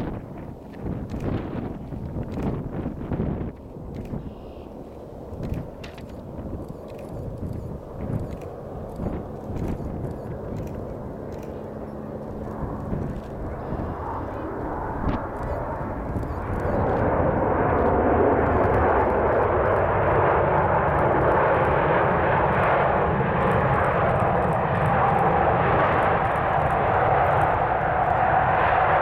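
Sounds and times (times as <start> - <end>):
jet engine roar: 0.0 - 29.0
high-pitched engine whine: 4.1 - 29.0.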